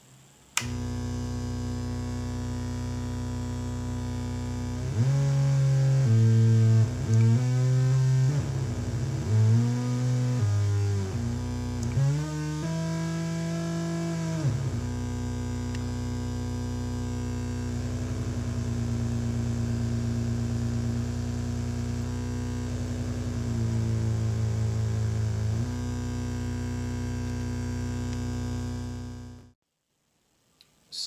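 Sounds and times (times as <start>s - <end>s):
synthesizer droning low buzzy tone: 0.7s - 29.6s.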